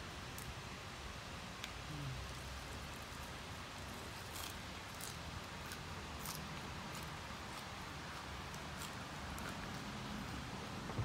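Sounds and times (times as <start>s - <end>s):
steady low hiss: 0.0s - 11.0s
leafy greens crackling: 1.6s - 11.0s.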